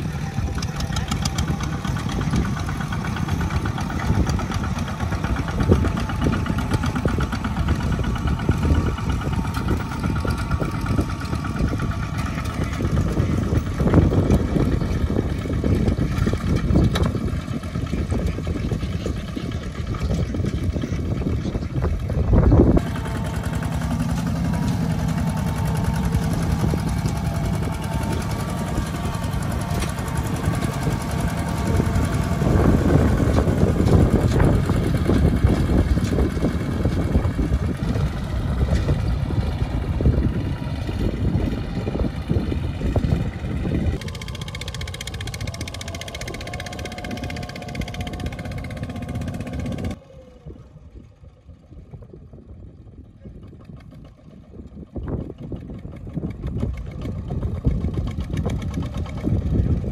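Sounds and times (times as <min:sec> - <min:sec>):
walking tractor diesel engines: 0:00.0 - 0:59.9.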